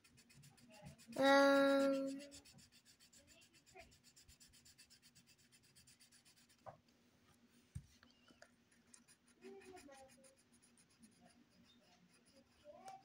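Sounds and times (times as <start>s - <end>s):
pencil scratching on paper: 0.0s - 6.7s, 8.7s - 13.0s.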